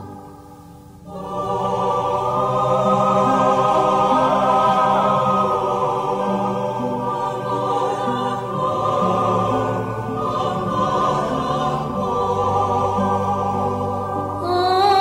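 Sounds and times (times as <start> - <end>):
choir-like voices holding chords: 0.0 - 15.0.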